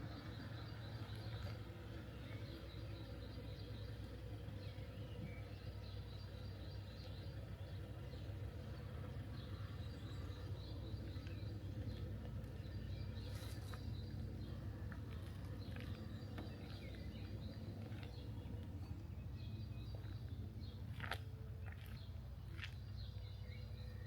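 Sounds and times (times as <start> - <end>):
low background rumble: 0.0 - 24.0.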